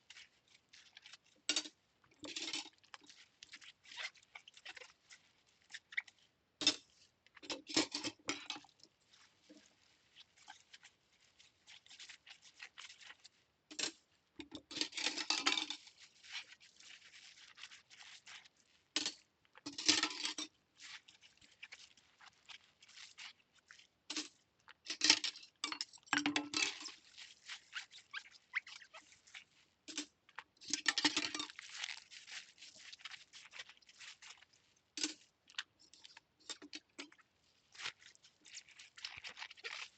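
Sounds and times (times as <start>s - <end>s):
scrubbing: 0.0s - 19.8s, 20.4s - 24.9s, 25.5s - 39.9s.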